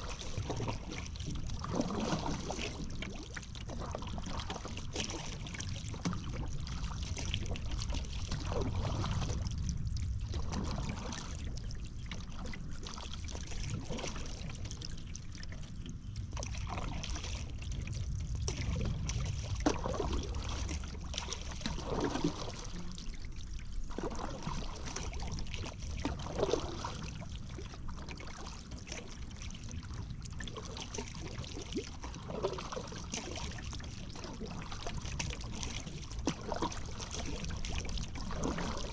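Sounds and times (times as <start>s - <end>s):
low steady rumble: 0.0s - 38.9s
paddle splashing water: 0.0s - 38.9s.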